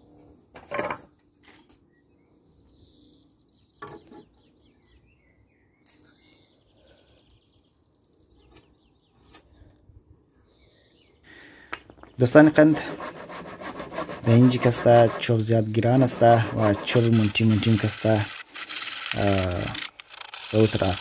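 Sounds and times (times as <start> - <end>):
birds chirping: 1.1 - 12.9, 14.2 - 21.0.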